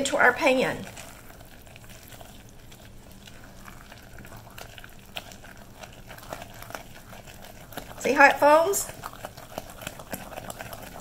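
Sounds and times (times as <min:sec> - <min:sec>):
candy syrup bubbling crackle: 0:00.0 - 0:11.0.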